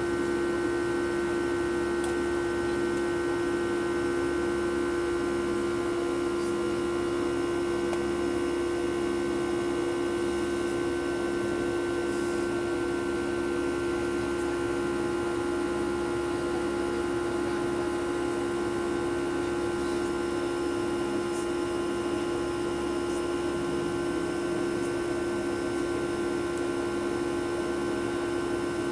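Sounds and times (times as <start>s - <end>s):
jet engine drone in cabin: 0.0s - 28.9s.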